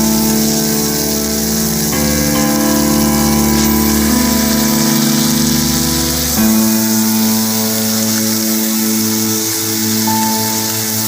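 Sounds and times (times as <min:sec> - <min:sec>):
background music chords: 0:00.0 - 0:11.0
food sizzling in oil: 0:00.0 - 0:11.0.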